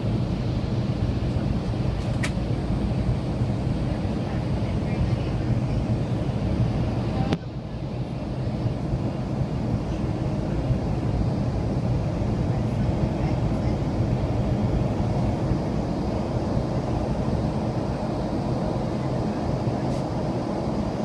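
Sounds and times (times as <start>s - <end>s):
airplane engines droning in cabin: 0.0s - 21.0s.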